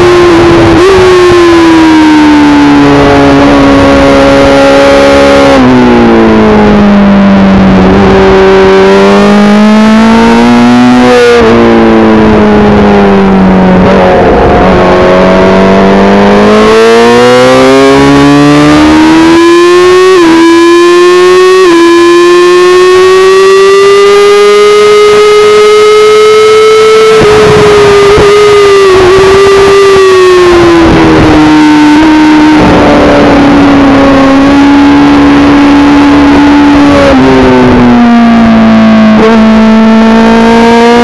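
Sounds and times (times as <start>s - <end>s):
motorcycle engine: 0.0s - 41.0s
quick gear upshifts: 0.0s - 41.0s.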